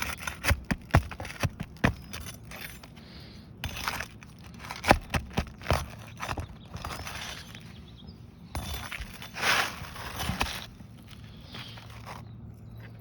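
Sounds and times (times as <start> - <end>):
scraping and rustling of shingles: 0.0 - 13.0.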